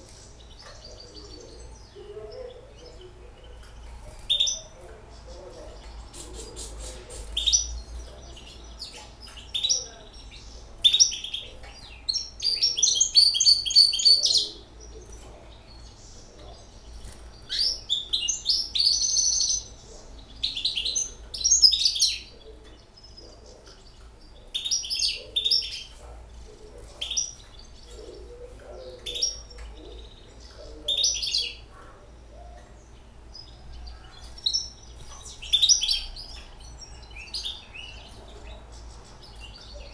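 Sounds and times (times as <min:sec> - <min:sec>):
finch twittering and trilling: 0:00.0 - 0:39.9.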